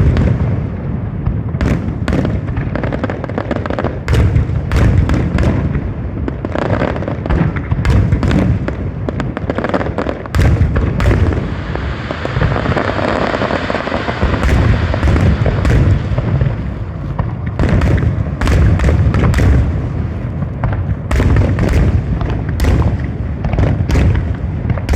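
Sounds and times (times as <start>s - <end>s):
fireworks bangs and booms: 0.0s - 24.9s
fireworks crackling: 0.0s - 24.9s.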